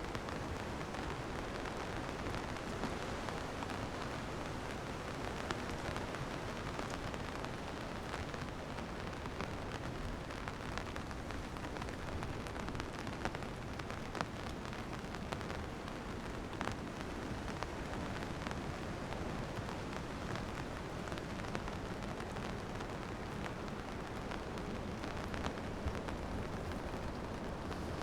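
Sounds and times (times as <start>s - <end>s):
raindrops ticking near microphone: 0.0s - 28.0s
steady rain falling: 0.0s - 28.0s.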